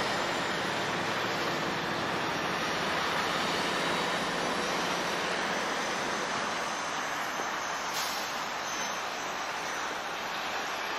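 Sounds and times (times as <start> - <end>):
truck diesel engine rumble: 0.0 - 10.9
tyre road hiss: 0.0 - 10.9.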